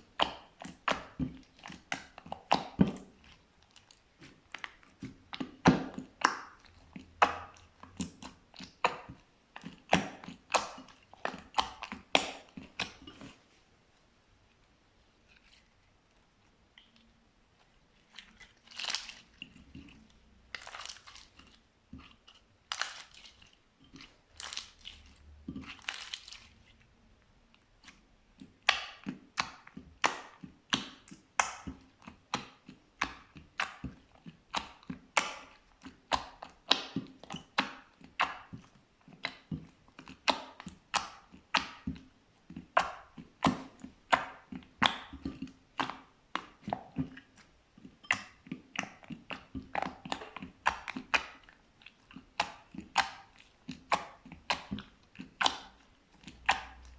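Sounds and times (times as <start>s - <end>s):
slime squishing: 0.0s - 56.9s.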